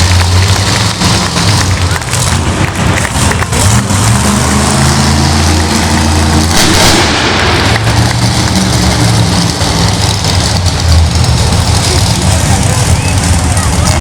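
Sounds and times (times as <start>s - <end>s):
loud rushing burst: 0.0s - 14.0s
monster truck engine droning: 0.0s - 14.0s.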